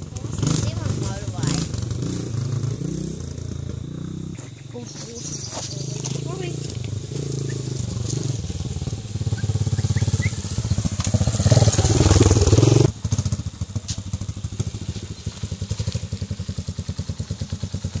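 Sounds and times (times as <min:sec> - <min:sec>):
dirt bike engine: 0:00.0 - 0:18.0.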